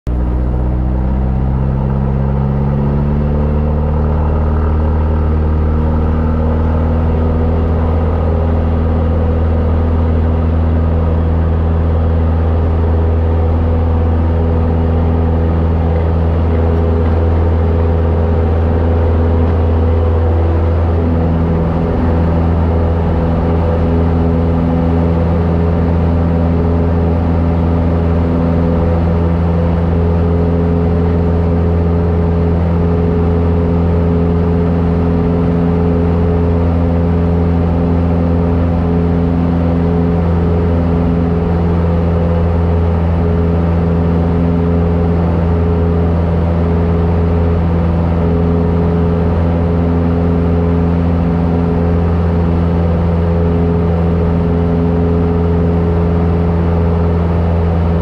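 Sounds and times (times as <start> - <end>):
airplane engine drone in cabin: 0.1 - 58.0.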